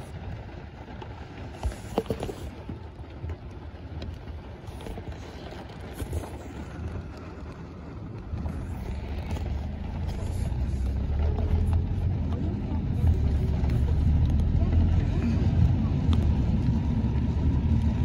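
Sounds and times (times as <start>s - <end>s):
heavy rain on standing water: 0.0s - 18.0s
low rumble: 0.0s - 18.0s.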